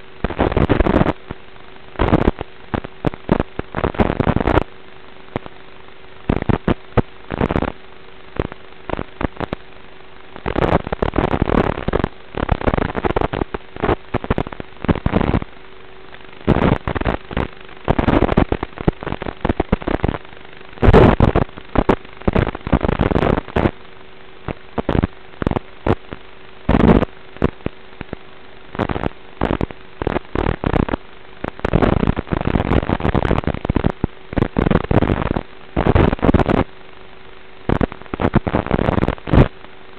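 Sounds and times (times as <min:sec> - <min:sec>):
crackling static: 0:00.0 - 0:39.9
faint steady hum: 0:00.0 - 0:39.9.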